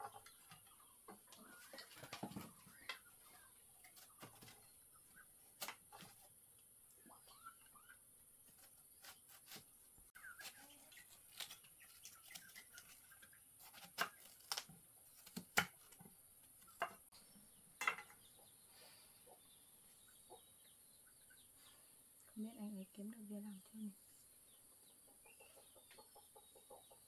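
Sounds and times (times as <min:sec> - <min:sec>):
faint chicken clucking: 0:00.0 - 0:27.0.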